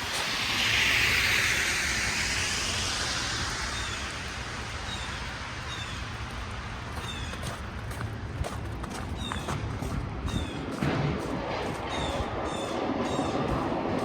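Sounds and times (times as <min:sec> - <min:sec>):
car tyres hissing on snow: 0:00.0 - 0:14.0
low city rumble: 0:00.0 - 0:14.0.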